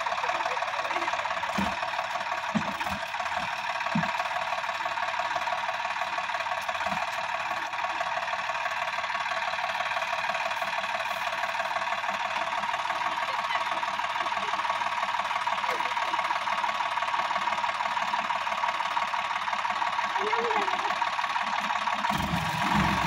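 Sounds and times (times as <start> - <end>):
tractor diesel engine clattering: 0.0 - 23.0.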